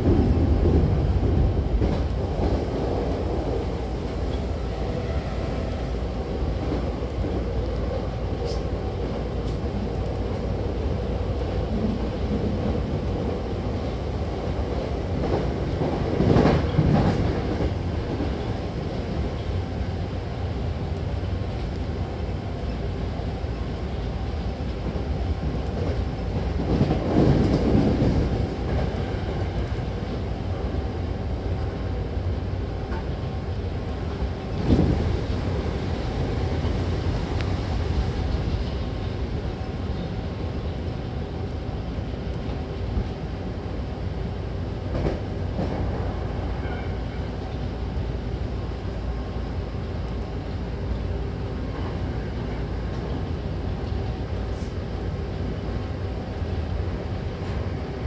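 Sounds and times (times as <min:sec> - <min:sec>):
train rumbling in motion: 0:00.0 - 0:58.0.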